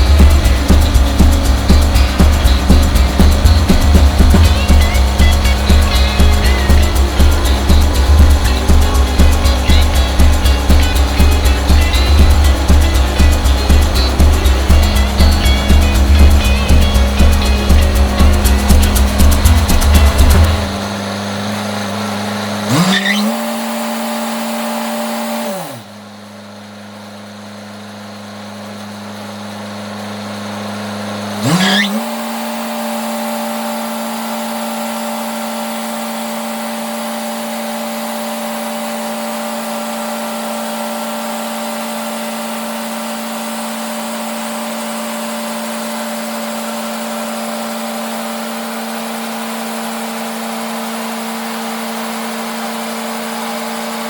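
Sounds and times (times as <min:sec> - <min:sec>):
diesel engine revving and idling: 0:00.0 - 0:54.0.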